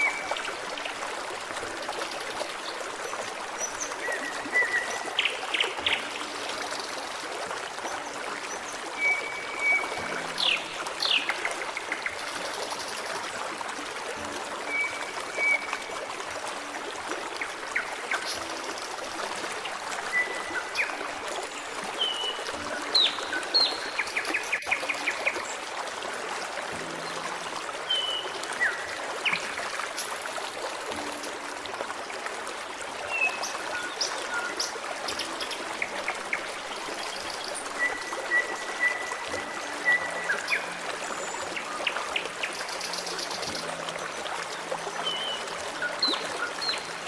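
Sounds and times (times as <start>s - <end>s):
stream trickling: 0.0s - 47.0s.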